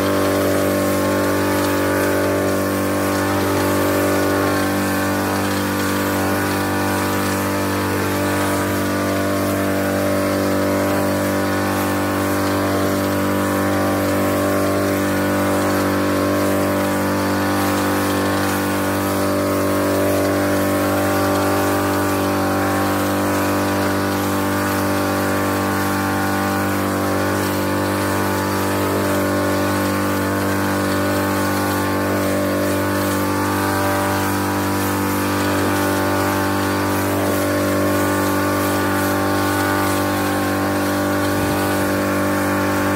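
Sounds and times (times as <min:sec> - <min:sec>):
power sprayer engine running: 0:00.0 - 0:42.9
spray wand hissing: 0:00.0 - 0:42.9.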